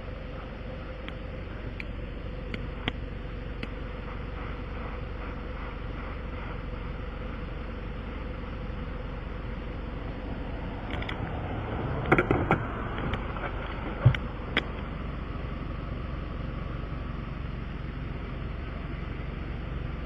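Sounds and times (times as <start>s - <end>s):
steady running hum: 0.0s - 20.0s.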